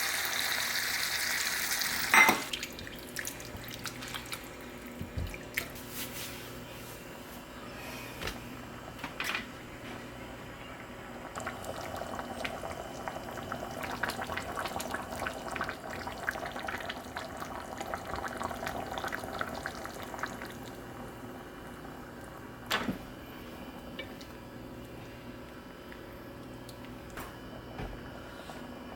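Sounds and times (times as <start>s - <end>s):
liquid boiling in a pot: 0.0s - 6.5s, 10.2s - 27.7s.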